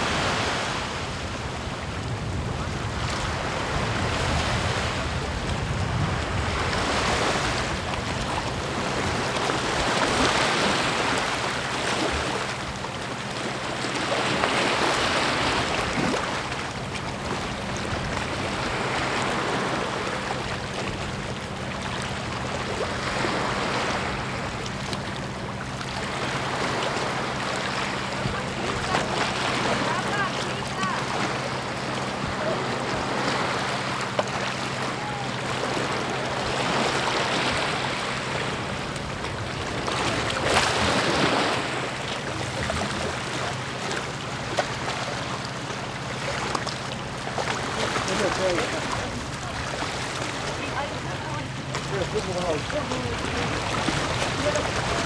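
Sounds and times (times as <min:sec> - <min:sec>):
faint low engine drone: 0:00.0 - 0:55.0
sea waves breaking on beach: 0:00.0 - 0:55.0.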